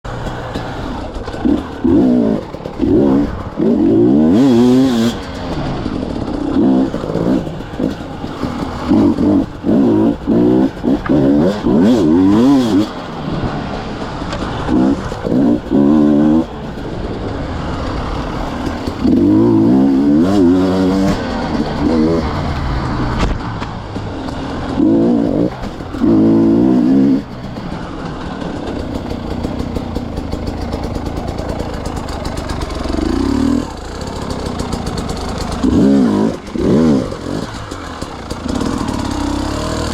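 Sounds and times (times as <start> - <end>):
two-stroke motorcycle engine revving: 0.1 - 39.9.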